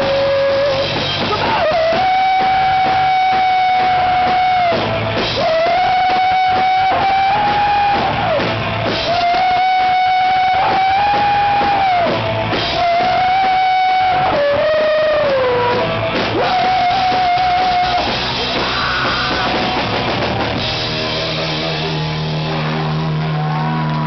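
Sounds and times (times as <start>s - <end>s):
distorted electric guitar: 0.0s - 24.0s
drum kit: 0.0s - 24.0s.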